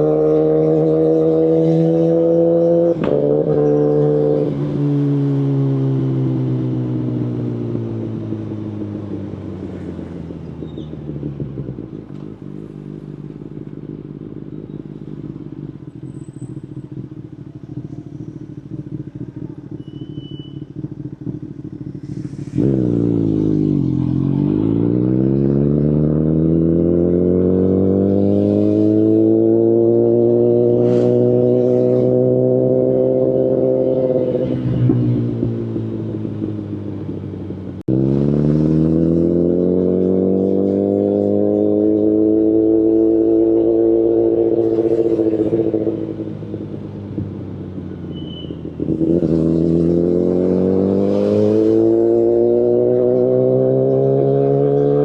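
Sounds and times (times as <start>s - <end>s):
motorcycle engine idling and accelerating: 0.0s - 55.0s.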